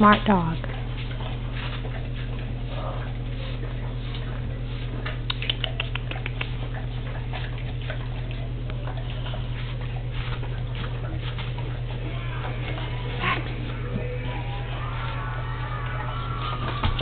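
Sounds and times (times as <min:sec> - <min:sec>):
dog licking and chewing: 0:00.0 - 0:17.0
low steady hum: 0:00.0 - 0:17.0.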